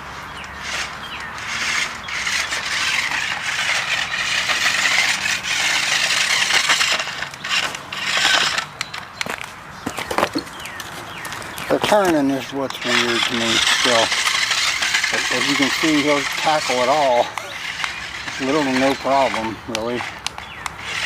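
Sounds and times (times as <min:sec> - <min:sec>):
electric motor and gears whining: 0:00.0 - 0:21.0
tyres scraping over ground: 0:00.0 - 0:21.0.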